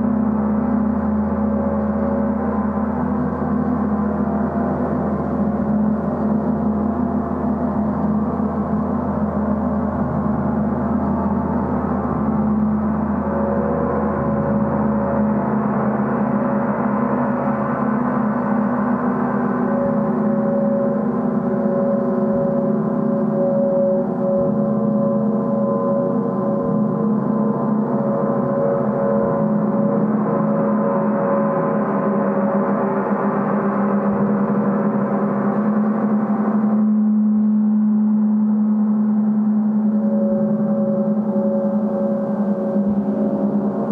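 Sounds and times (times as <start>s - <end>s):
gong droning: 0.0s - 43.9s
high ringing tones: 0.0s - 43.9s.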